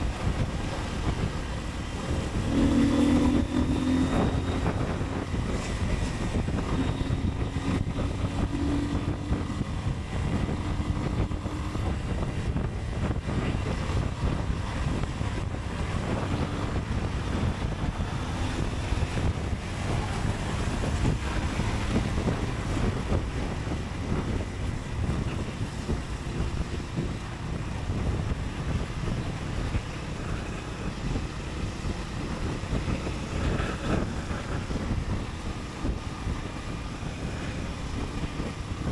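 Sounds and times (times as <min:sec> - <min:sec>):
motorcycle engine rumble: 0:00.0 - 0:38.9
tyres on road: 0:00.0 - 0:38.9
wind rushing over microphone: 0:00.0 - 0:38.9.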